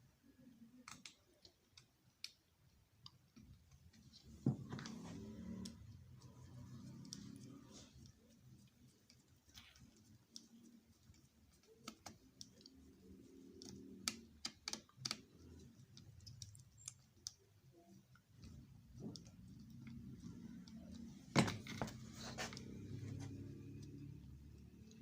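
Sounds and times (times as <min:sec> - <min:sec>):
small clicks and taps: 0:00.4 - 0:25.0.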